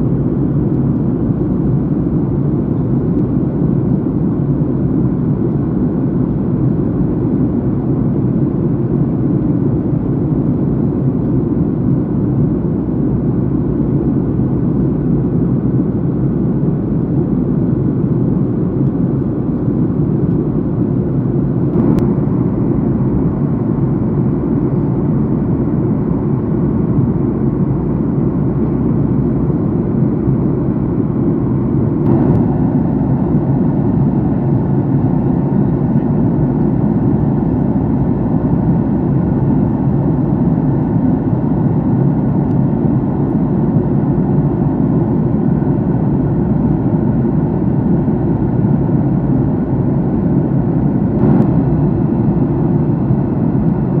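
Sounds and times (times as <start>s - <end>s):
airliner cabin engine roar: 0.0s - 54.0s.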